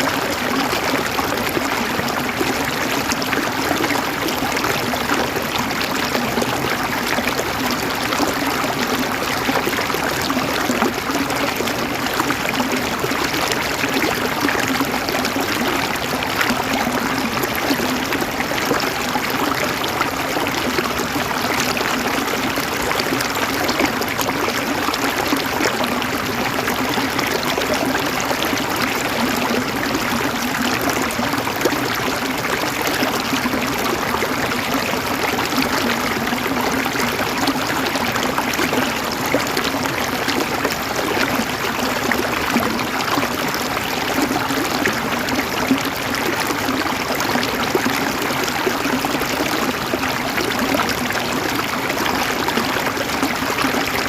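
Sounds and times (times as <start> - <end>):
river water running over rocks: 0.0 - 54.0.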